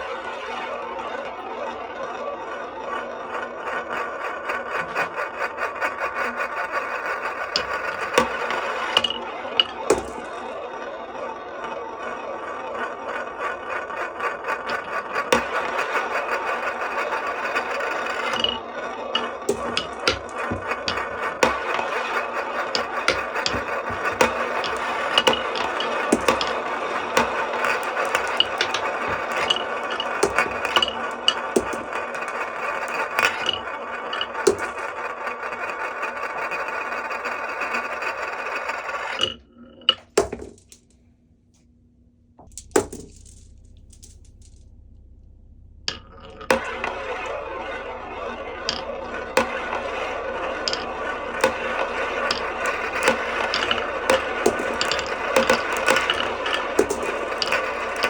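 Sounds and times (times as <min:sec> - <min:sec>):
marbles rolling rumble: 0:00.0 - 0:41.0, 0:42.4 - 0:58.0
marbles clicking on wooden track: 0:03.0 - 0:40.9, 0:42.4 - 0:44.2, 0:45.9 - 0:58.0.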